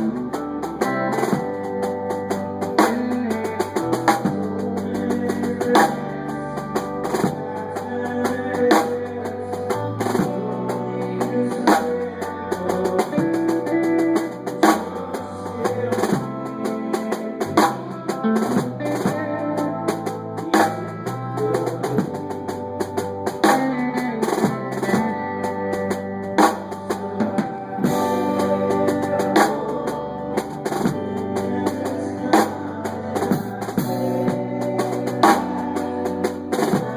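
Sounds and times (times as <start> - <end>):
bass line: 0.0 - 36.9
drum kit beat: 0.0 - 36.9.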